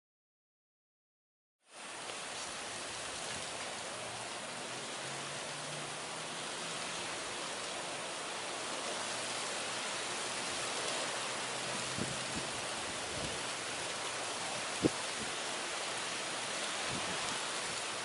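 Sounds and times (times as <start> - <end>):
high wind hiss: 1.7 - 18.0.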